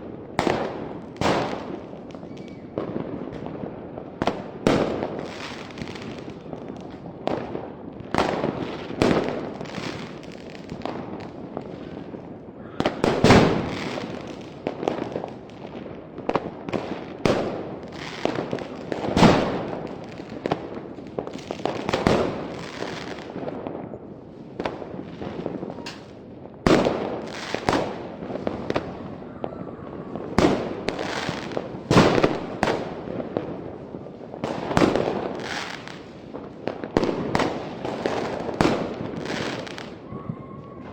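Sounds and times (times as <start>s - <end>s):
fireworks bursting with bangs: 0.0s - 40.9s.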